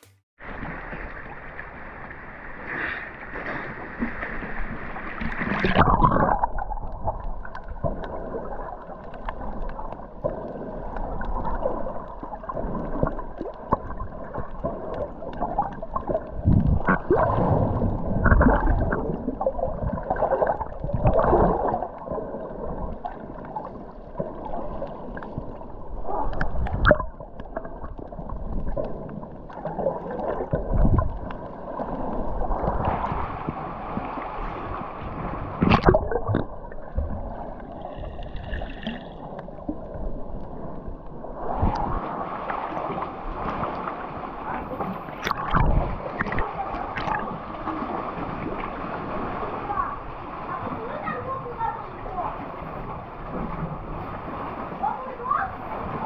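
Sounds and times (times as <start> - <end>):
muffled underwater rushing water: 0.0 - 56.0.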